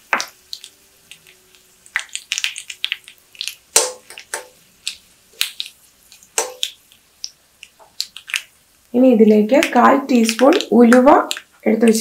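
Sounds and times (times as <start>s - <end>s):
mustard seeds popping in hot oil: 0.0s - 12.0s.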